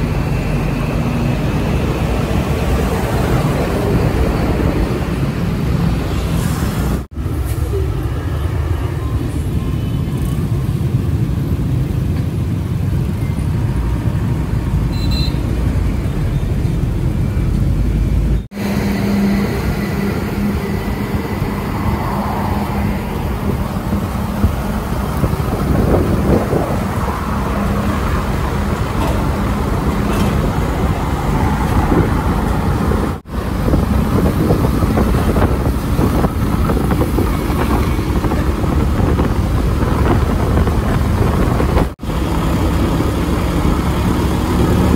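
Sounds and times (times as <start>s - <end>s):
vehicles passing with engine rumble: 0.0s - 44.9s.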